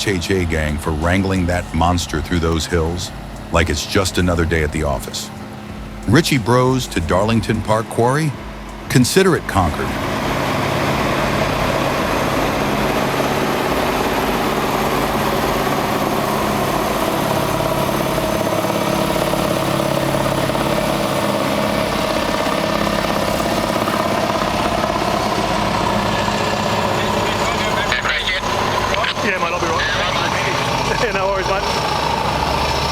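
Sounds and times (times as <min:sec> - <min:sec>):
heavy diesel truck engines running: 0:00.0 - 0:32.9.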